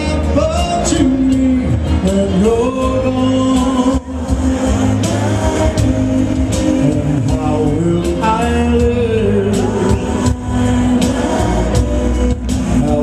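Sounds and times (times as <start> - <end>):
live pop band: 0.0 - 13.0
man singing: 0.0 - 13.0.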